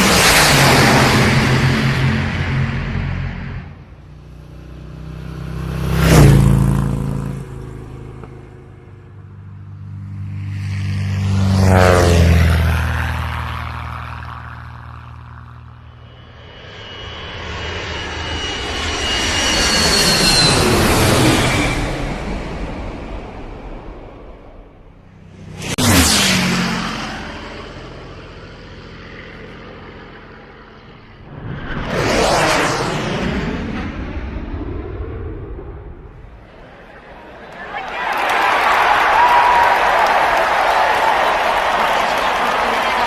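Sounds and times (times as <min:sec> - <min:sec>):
aircraft engines flying past: 0:00.0 - 0:43.0
high engine whine: 0:00.0 - 0:43.0.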